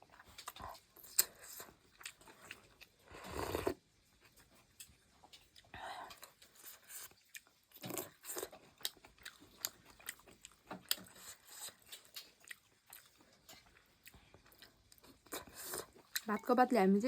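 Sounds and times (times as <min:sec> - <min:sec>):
person chewing: 0:00.0 - 0:16.4.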